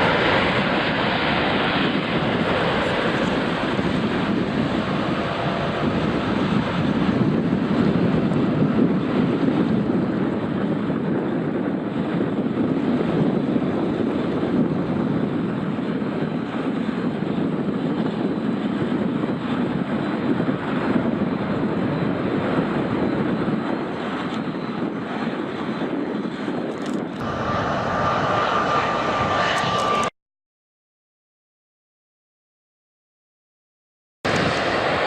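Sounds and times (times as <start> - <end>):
wind on microphone: 0.0 - 30.1, 34.3 - 35.0
jet engine roar: 0.0 - 30.2, 34.3 - 35.0.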